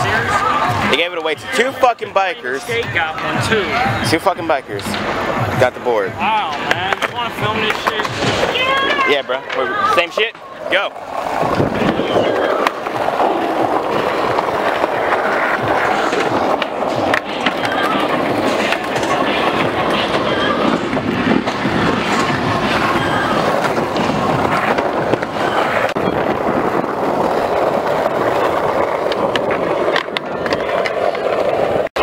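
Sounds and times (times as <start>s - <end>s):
skateboard clacks: 0.0s - 32.0s
skateboard wheels rolling on asphalt: 0.0s - 32.0s.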